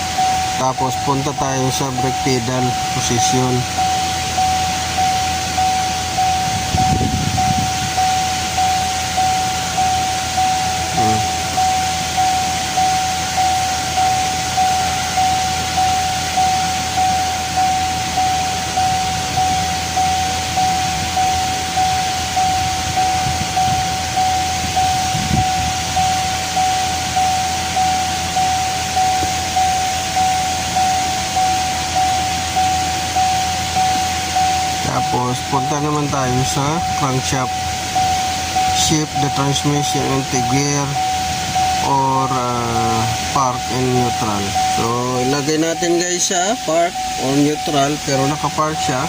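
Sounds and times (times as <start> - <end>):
car warning chime dinging: 0.0 - 49.0.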